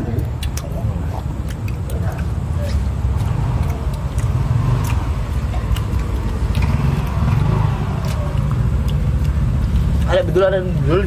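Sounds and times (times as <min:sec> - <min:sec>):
person chewing meat: 0:00.0 - 0:11.0
steady low rumble: 0:00.0 - 0:11.0.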